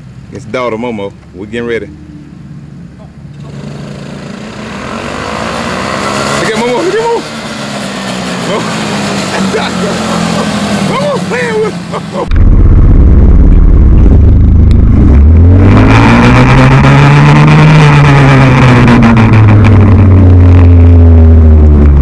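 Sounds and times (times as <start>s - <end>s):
loud vehicle engine running: 1.9s - 22.0s.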